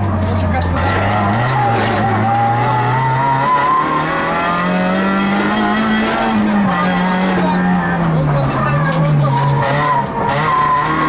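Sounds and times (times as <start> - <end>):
car engine driven hard: 0.0 - 11.0.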